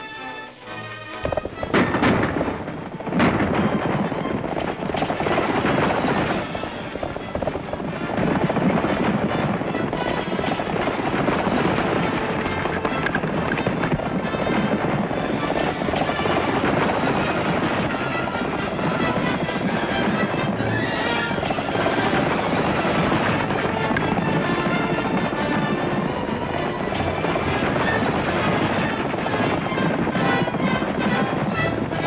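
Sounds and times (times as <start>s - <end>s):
galloping horse hooves: 1.0s - 32.0s
wagon rattling on dirt road: 1.2s - 32.0s.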